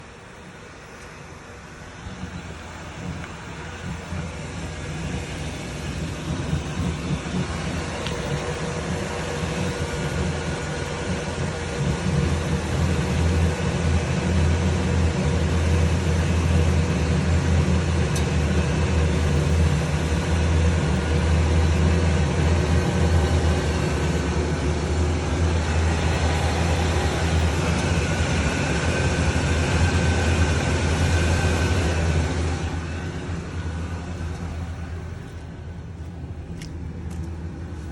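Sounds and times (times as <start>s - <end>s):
car whirring hum: 0.0s - 37.9s.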